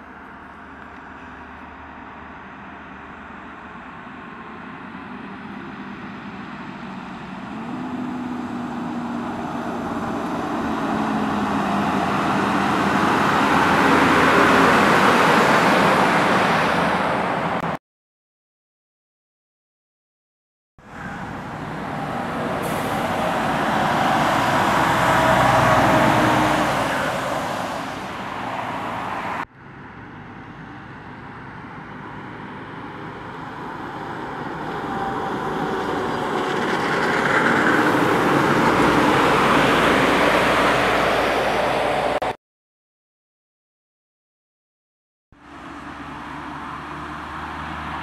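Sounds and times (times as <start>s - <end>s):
trucks driving past on wet road: 0.0s - 17.8s, 20.8s - 42.4s, 45.4s - 48.0s.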